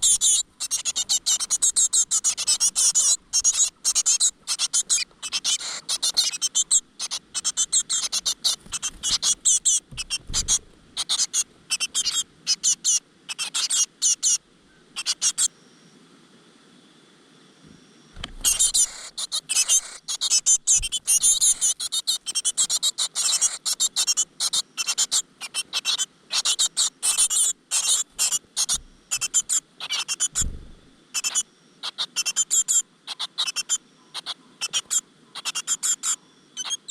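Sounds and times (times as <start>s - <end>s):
nestlings cheeping: 0.0s - 14.4s, 18.2s - 36.9s.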